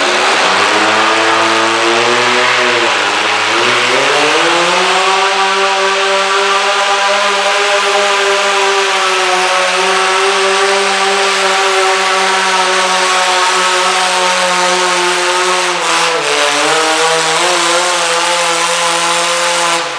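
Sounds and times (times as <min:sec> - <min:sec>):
tractor engine at high revs: 0:00.0 - 0:19.9.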